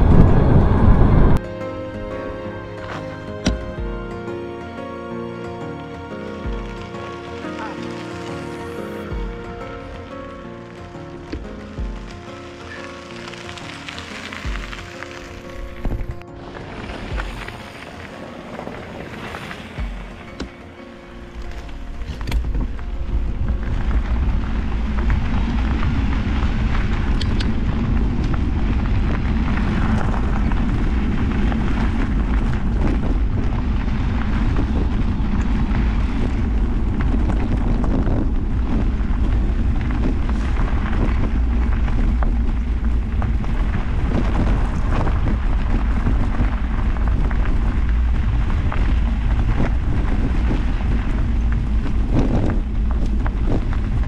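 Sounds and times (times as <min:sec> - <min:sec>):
wind buffeting microphone: 0:00.0 - 0:04.7, 0:06.1 - 0:54.0
bike tyres rumbling on gravel: 0:00.0 - 0:54.0
stones crunching and bike rattling: 0:06.0 - 0:54.0.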